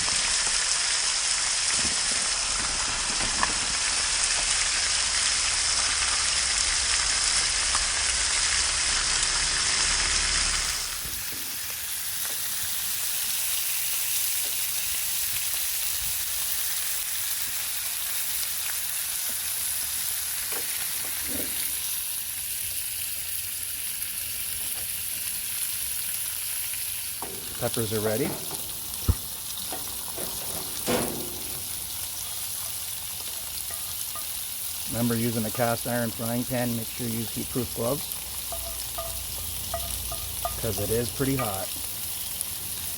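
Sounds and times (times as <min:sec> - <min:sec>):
meat and peppers sizzling in a pan: 0:00.0 - 0:42.9.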